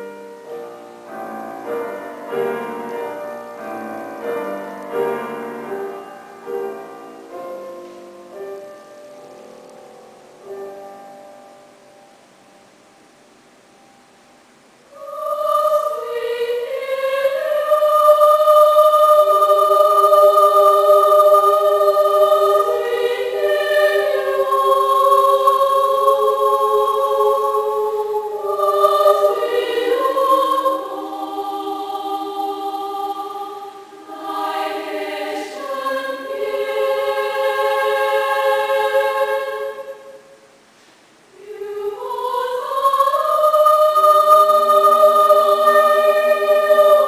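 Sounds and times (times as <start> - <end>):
children's choir singing: 0.0 - 9.8, 14.9 - 40.6, 41.2 - 47.0.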